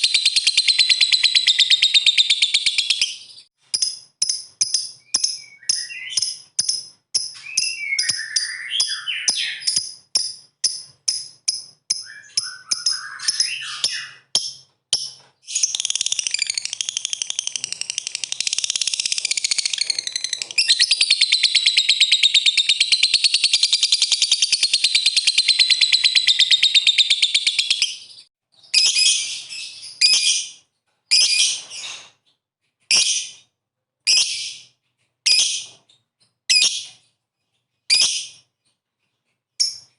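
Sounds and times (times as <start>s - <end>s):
lovebird chirping and chattering: 0.0s - 32.0s, 34.1s - 38.5s.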